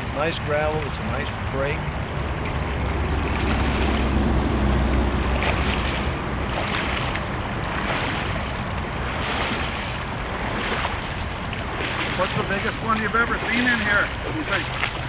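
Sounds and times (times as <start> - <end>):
creek water rushing over rocks: 0.0 - 15.0
wading steps sloshing: 0.0 - 15.0
wind rumbling on microphone: 1.8 - 15.0.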